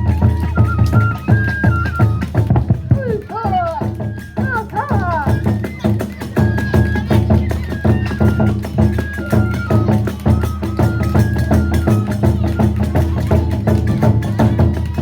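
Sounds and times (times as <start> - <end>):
bamboo flute melody: 0.0 - 15.0
fast drum strokes: 0.0 - 15.0.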